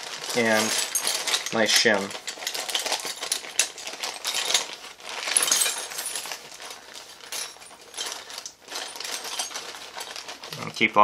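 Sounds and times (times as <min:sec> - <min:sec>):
small metal pieces rattling in box: 0:00.0 - 0:10.7.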